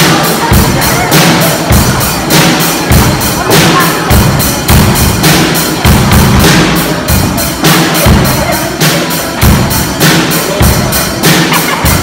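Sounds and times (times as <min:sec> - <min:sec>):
low drum hits: 0:00.0 - 0:12.0.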